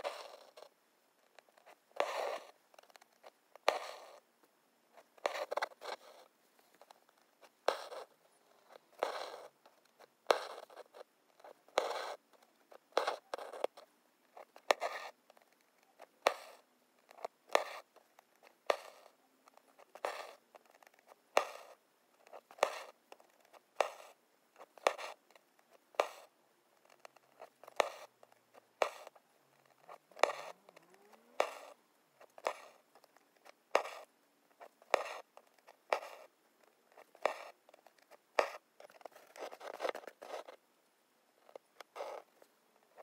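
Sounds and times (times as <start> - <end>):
needle piercing fabric: 4.9 - 40.6, 41.4 - 43.0.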